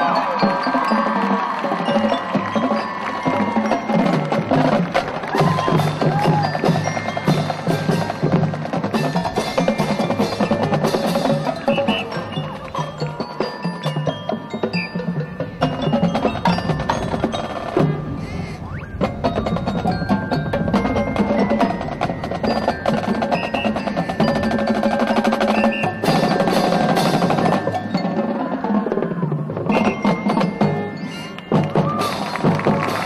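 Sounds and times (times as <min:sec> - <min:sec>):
bells and marimba: 0:00.0 - 0:33.0
marching band playing: 0:00.0 - 0:33.0.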